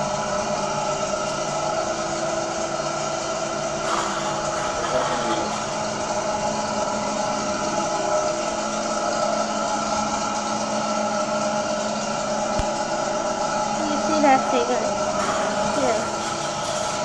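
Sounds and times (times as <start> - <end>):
dental equipment motor hum: 0.0 - 17.0.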